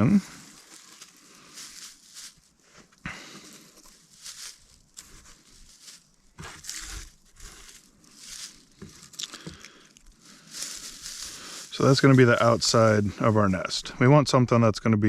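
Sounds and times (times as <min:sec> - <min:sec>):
dry grass crinkling and rustling: 0:00.0 - 0:14.1.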